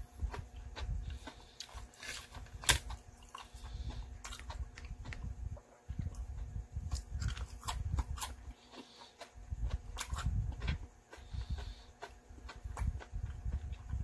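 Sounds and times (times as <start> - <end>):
crunchy chewing: 0.0 - 14.0.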